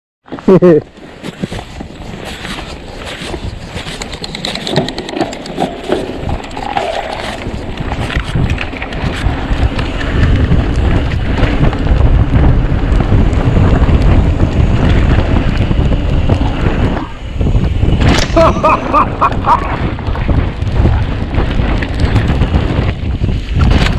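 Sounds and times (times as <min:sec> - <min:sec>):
bike tyres on dirt trail: 0:00.3 - 0:23.9
wind buffeting microphone: 0:00.8 - 0:23.9
bike rattling and knocking: 0:01.2 - 0:23.9.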